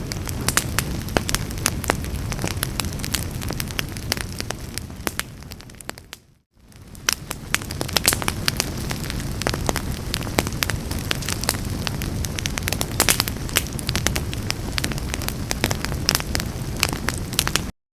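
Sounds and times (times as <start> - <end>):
low rumble of flames: 0.0 - 17.7
wood fire crackling: 0.0 - 17.7.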